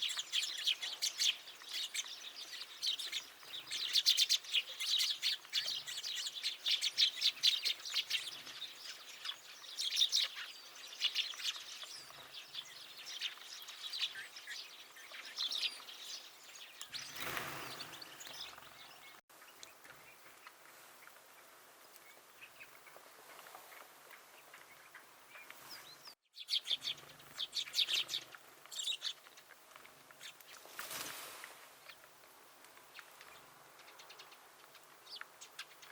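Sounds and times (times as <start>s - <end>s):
small songbirds chirping: 0.0s - 31.2s, 31.8s - 35.9s.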